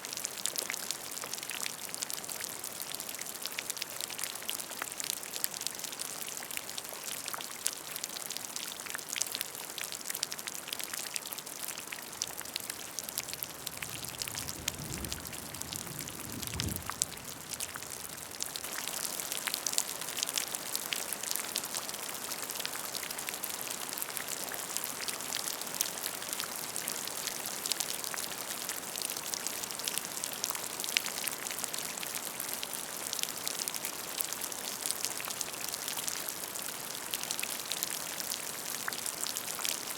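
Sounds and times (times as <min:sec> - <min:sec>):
rain splashing into puddle: 0:00.0 - 0:39.9.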